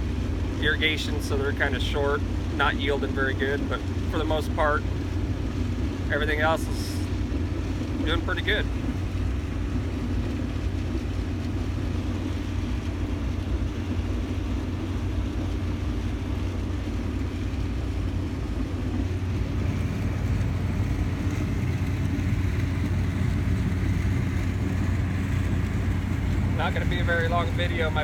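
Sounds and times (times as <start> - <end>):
combine harvester droning: 0.0 - 28.0.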